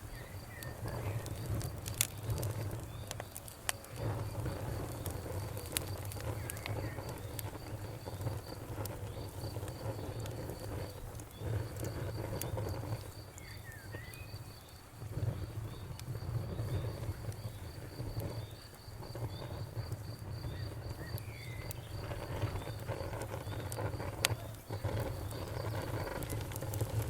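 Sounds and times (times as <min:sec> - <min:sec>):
campfire crackling: 0:00.0 - 0:27.0
cricket chirping: 0:00.0 - 0:27.0.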